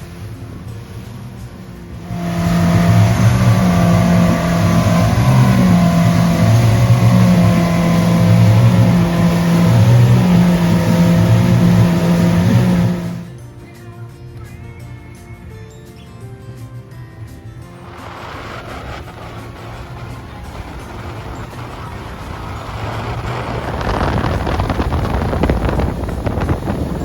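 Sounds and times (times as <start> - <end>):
outboard motor droning: 0.0 - 13.6, 17.0 - 27.0.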